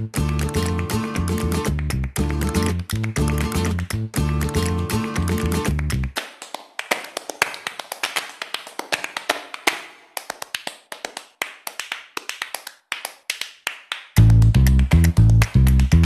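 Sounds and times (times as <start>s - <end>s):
percussive taps and claps: 0.0s - 16.0s.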